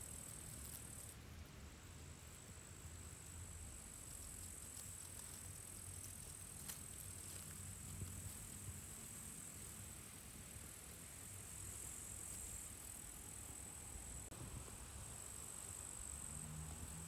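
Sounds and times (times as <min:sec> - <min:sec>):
crickets chirring: 0:00.0 - 0:01.2, 0:02.2 - 0:17.0.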